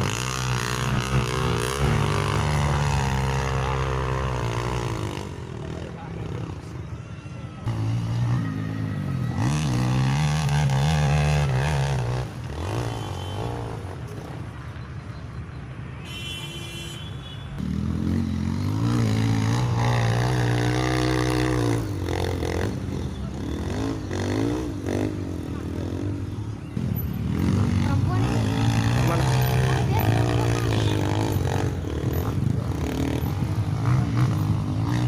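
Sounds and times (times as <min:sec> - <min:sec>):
dirt bike engines revving: 0:00.0 - 0:16.3, 0:17.6 - 0:35.0.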